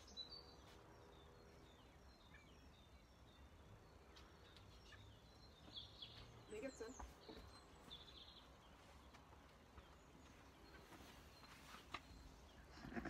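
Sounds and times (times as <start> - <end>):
distant bird chirps: 0.0 - 13.0.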